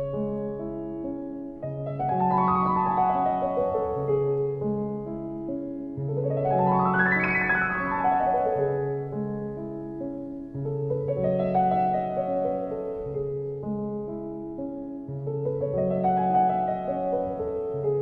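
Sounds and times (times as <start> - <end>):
piano arpeggios: 0.0 - 18.0.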